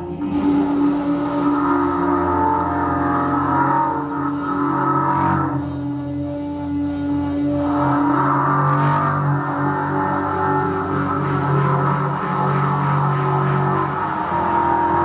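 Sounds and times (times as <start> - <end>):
sustained synthesizer drone: 0.0 - 15.0.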